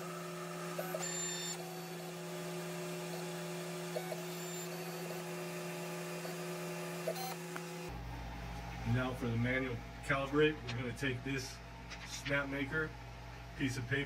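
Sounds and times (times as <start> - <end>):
printer stepper motor hum: 0.0 - 14.0.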